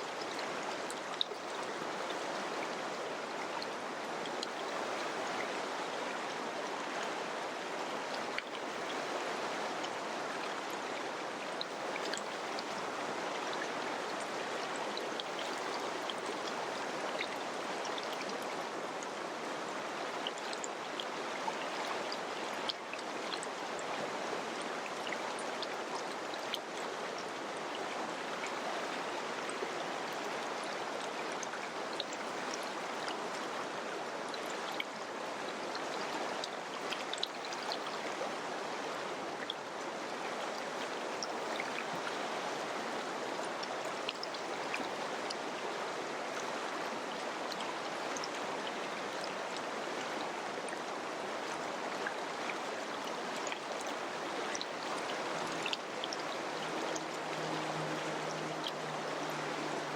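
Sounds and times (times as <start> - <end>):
river flowing: 0.0 - 59.9
water splashes and trickles: 0.0 - 59.9.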